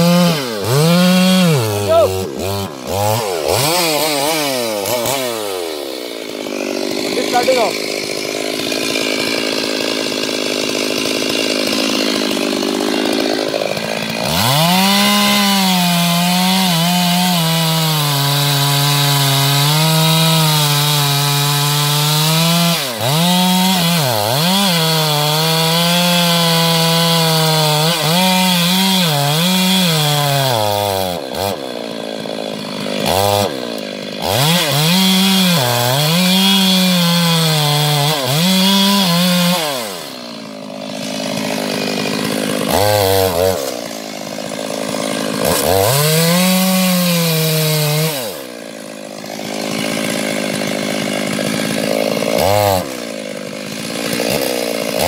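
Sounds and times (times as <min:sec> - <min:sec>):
chainsaw sawing tree trunk: 0:00.0 - 0:55.0.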